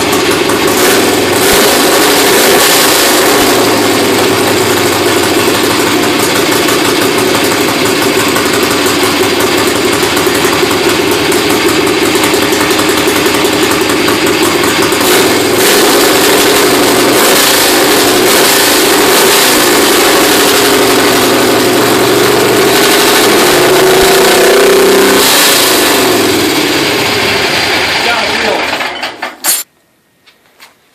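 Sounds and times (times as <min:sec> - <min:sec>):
engine running: 0:00.0 - 0:29.6.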